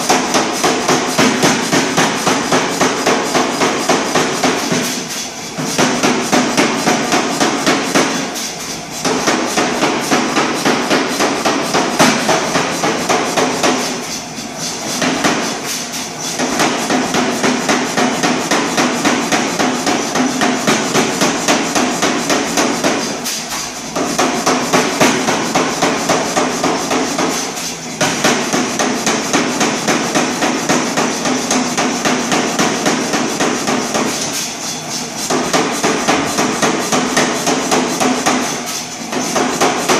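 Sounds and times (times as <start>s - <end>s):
power hammer striking hot steel: 0.0s - 39.9s.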